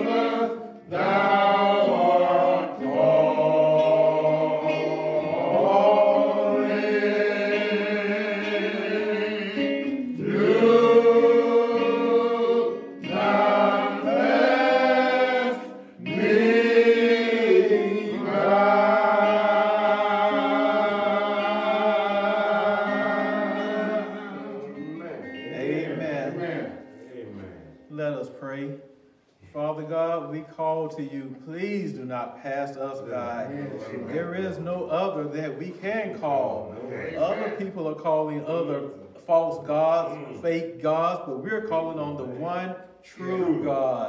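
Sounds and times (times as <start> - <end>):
unaccompanied gospel hymn singing: 0.0 - 44.0.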